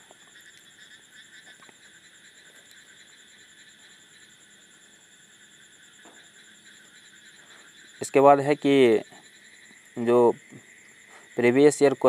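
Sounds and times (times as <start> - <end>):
faint high-pitched hiss: 0.0 - 12.0.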